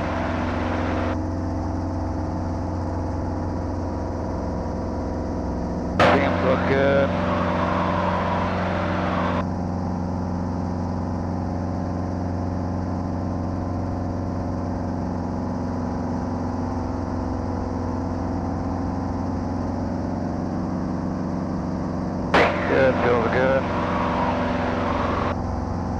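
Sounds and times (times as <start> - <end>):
helicopter engine and rotor: 0.0 - 4.0, 6.0 - 21.2, 22.4 - 25.9.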